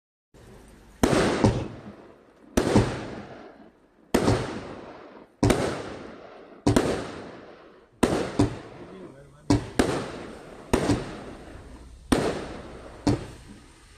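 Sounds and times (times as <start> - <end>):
fireworks bangs and cracks: 1.0 - 13.9.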